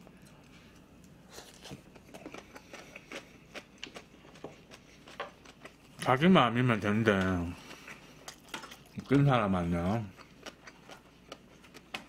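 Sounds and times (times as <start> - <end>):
person chewing food: 0.0 - 6.2, 6.9 - 12.0.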